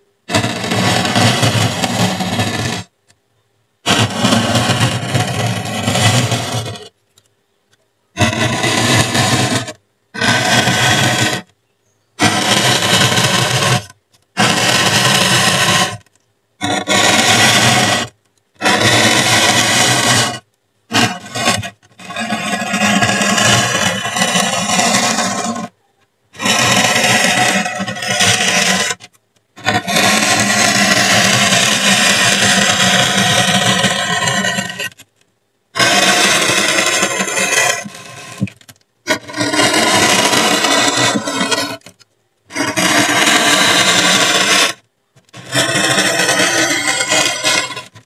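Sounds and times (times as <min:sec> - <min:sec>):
metal tip scratching foam board: 0:00.0 - 0:03.0, 0:03.8 - 0:07.3, 0:08.2 - 0:11.6, 0:12.2 - 0:48.0.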